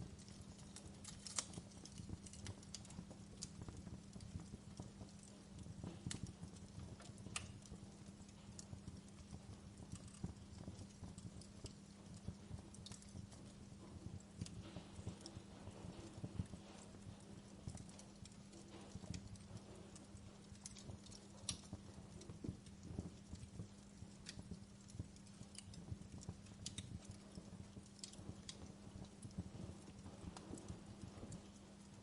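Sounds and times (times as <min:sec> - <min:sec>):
steady low hum: 0:00.0 - 0:32.0
wood fire crackling: 0:00.0 - 0:32.0.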